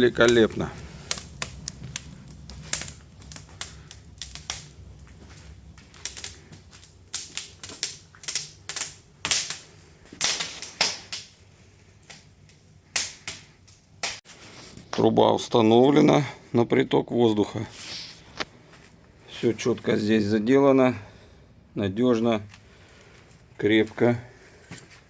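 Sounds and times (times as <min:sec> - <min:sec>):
low hum of fireplace draft: 0:00.0 - 0:25.0
wood fire crackling: 0:00.0 - 0:25.0.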